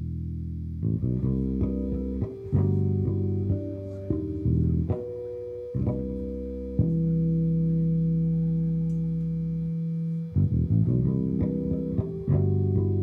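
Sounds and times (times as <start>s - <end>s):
electric bass plucked notes: 0.0s - 13.0s.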